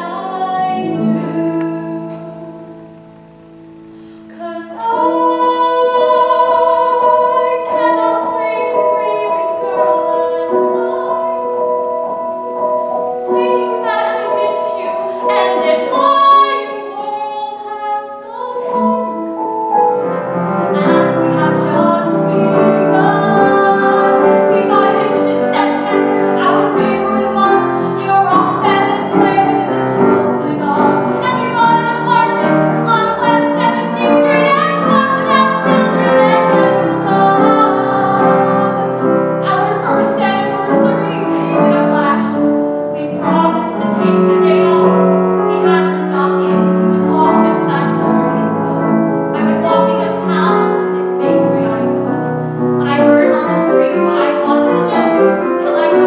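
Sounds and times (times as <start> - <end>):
woman singing: 0.0 - 2.8, 4.2 - 19.6, 20.4 - 56.0
grand piano accompaniment: 0.0 - 56.0.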